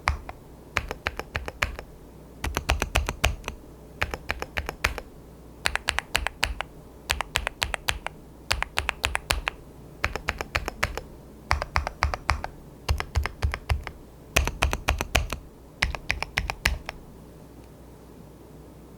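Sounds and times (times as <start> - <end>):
mechanical keyboard typing: 0.0 - 17.0.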